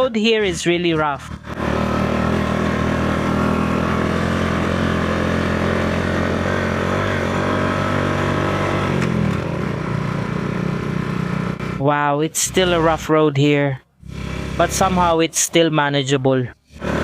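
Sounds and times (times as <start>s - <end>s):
motorcycle engine running: 0.0s - 13.1s, 14.0s - 15.2s, 16.6s - 17.0s.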